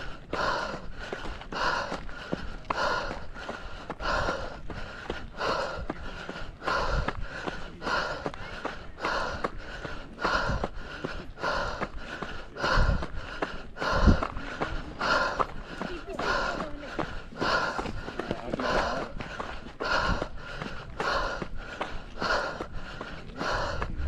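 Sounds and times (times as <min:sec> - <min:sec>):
hard rhythmic breathing: 0:00.0 - 0:24.0.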